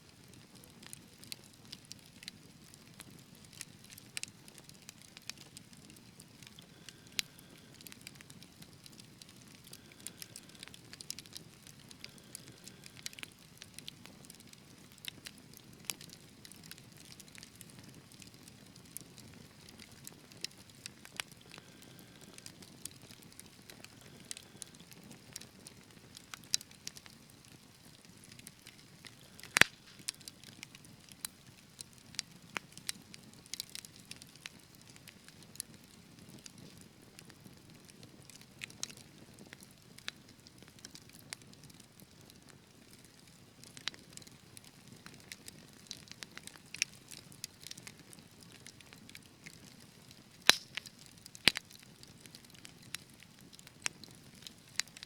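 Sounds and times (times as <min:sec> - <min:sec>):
low rumble of flames: 0:00.1 - 0:55.0
wood fire popping and snapping: 0:00.1 - 0:55.0.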